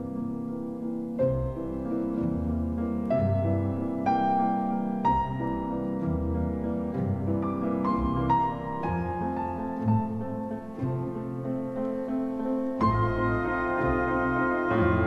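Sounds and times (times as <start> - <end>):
slow classical piano music: 0.0 - 15.0.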